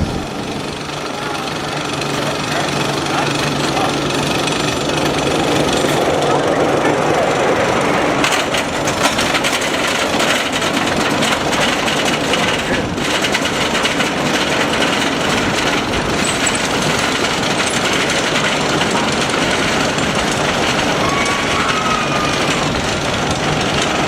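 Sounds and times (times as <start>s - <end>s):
roller coaster clattering on track: 0.0s - 24.0s.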